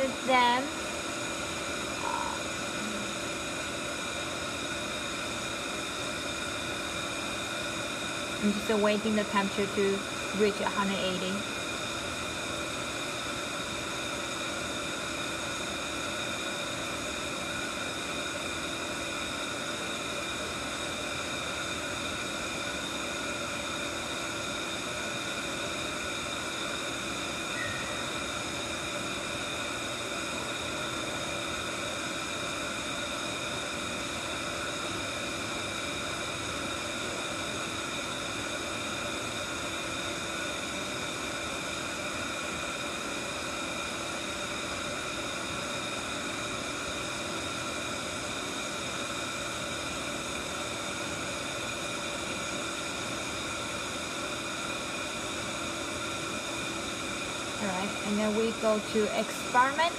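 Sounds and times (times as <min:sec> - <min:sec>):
lab machinery whirring: 0:00.0 - 0:59.9.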